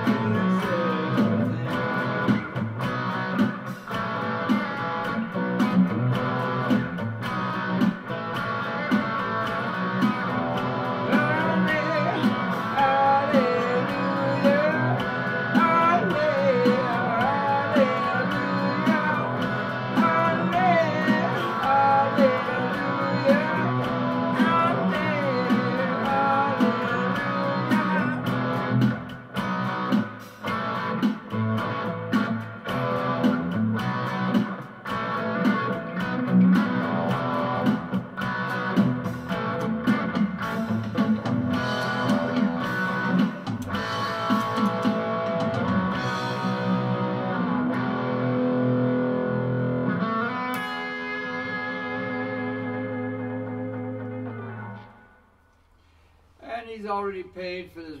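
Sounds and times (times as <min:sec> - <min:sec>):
electric guitar through amplifier: 0:00.0 - 0:56.4.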